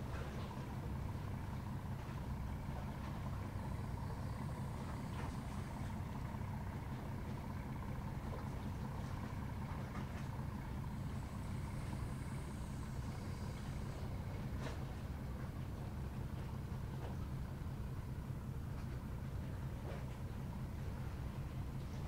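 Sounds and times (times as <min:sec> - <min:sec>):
faint thin hum: 0:00.0 - 0:22.0
low engine drone: 0:00.0 - 0:22.0.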